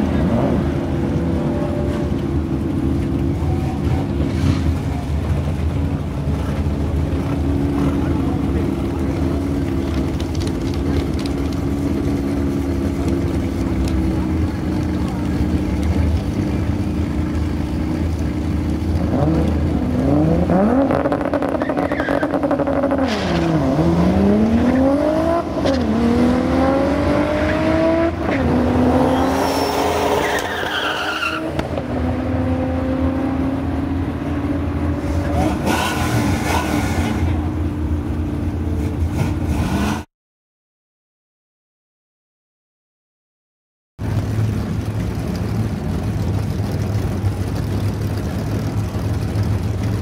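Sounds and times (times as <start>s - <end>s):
car engine idling and accelerating: 0.0s - 40.1s, 44.0s - 50.0s.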